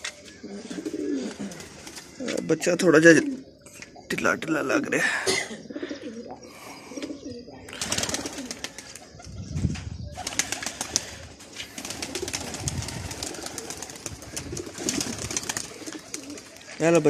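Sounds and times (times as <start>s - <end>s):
pigeons pecking on sandy ground: 0.0s - 9.3s, 10.2s - 17.0s
pigeons cooing: 0.0s - 16.8s.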